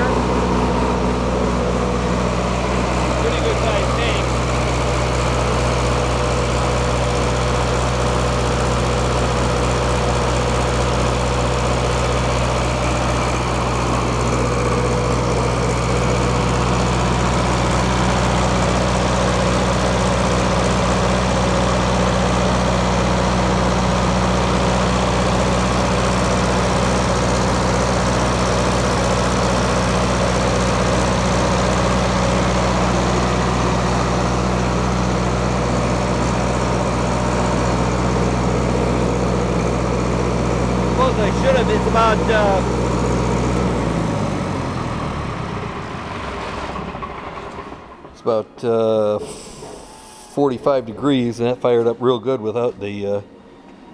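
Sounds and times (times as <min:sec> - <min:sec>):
diesel generator running: 0:00.0 - 0:53.9.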